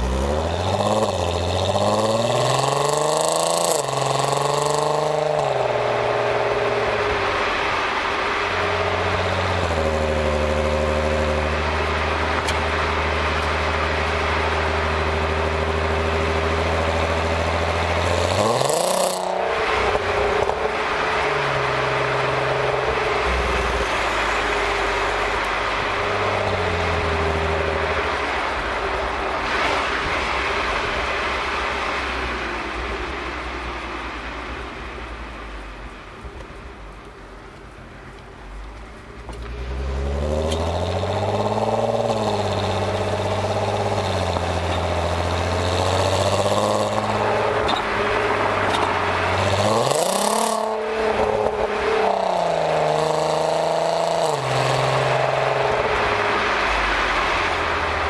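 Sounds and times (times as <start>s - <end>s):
car exhaust drone while driving: 0.0s - 58.0s
road noise: 0.0s - 58.0s.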